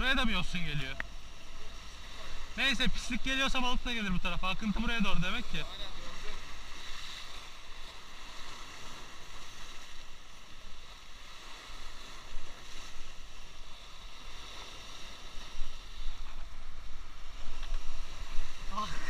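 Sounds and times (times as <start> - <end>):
sea waves breaking over rocks: 0.0 - 19.0.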